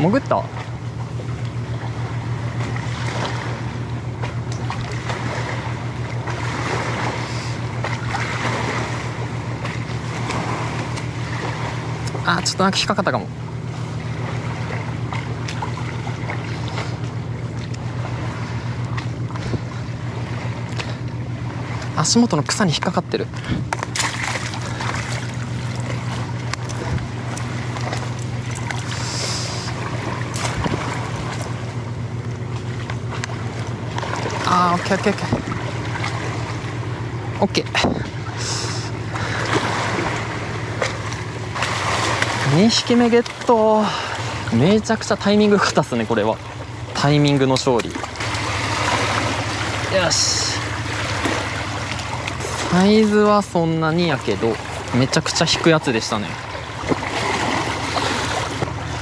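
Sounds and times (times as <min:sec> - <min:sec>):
low motor drone: 0:00.0 - 0:59.0
low pulsing engine hum: 0:00.0 - 0:59.0
wind and water hiss: 0:00.0 - 0:59.0.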